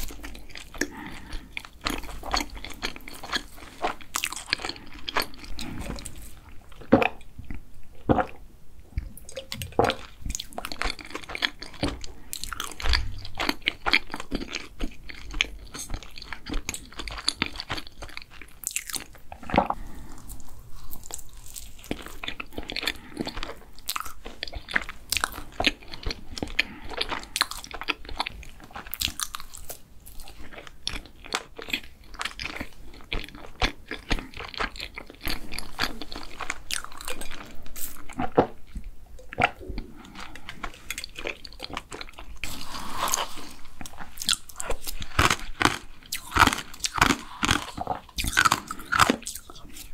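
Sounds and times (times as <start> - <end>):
biting and chewing food: 0.0 - 8.4, 9.0 - 49.9.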